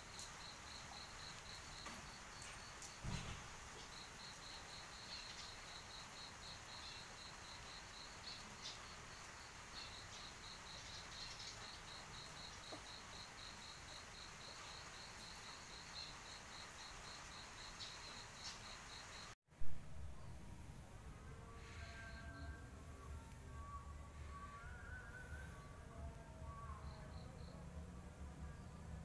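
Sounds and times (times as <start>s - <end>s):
insect chirping: 0.0s - 19.4s, 21.4s - 27.6s.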